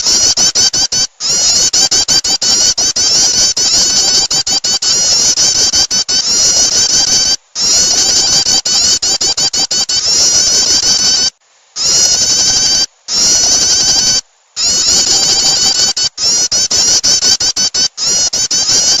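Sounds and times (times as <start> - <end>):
recorded bird chirps: 0.0 - 19.0.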